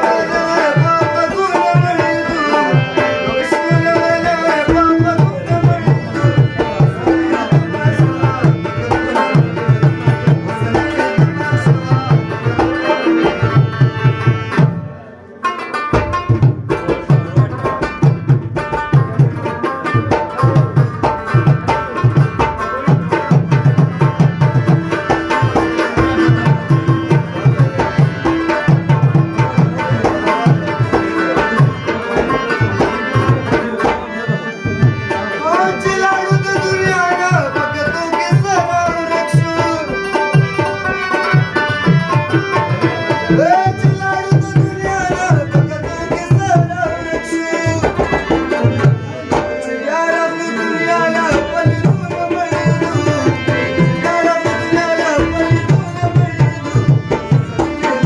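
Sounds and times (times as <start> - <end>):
harmonium chords: 0.0 - 58.0
tabla rhythm: 0.0 - 58.0.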